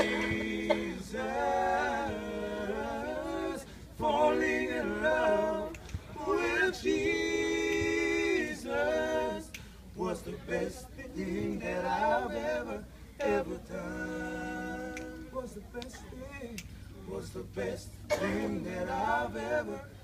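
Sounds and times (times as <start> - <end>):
male trio singing in harmony: 0.0 - 20.0.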